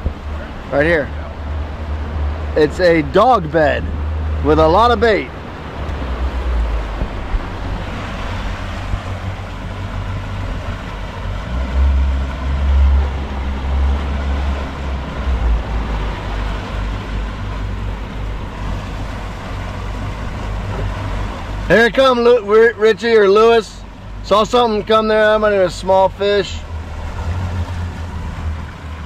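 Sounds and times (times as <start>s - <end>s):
boat outboard engines rumbling: 0.0s - 29.0s.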